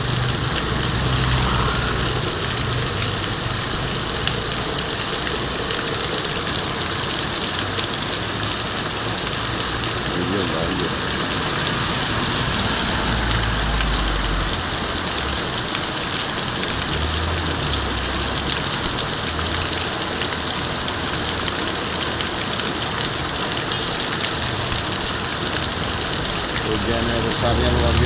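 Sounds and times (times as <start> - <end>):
heavy rain hissing: 0.0 - 28.0
vehicle engines running: 0.0 - 28.0.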